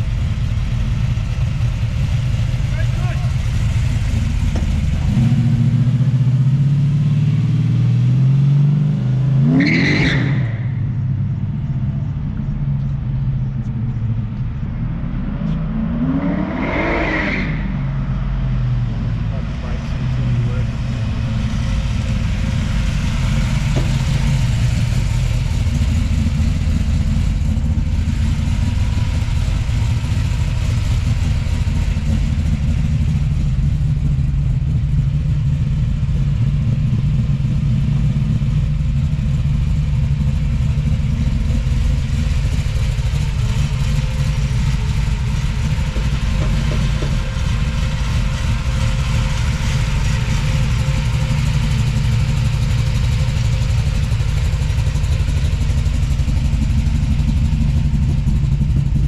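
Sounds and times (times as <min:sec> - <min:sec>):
car engine idling: 0:00.0 - 0:09.4, 0:10.3 - 0:16.0, 0:17.5 - 0:59.0.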